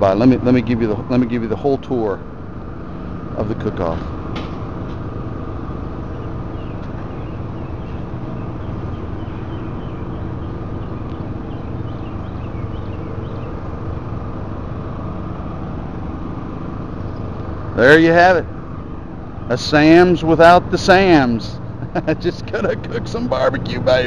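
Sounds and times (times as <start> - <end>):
engines humming: 0.0 - 24.0.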